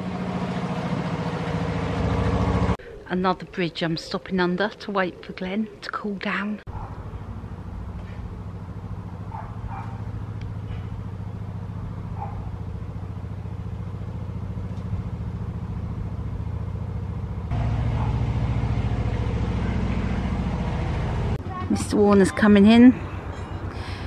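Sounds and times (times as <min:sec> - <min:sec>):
diesel boat engine chugging: 0:00.0 - 0:02.9, 0:06.8 - 0:24.0.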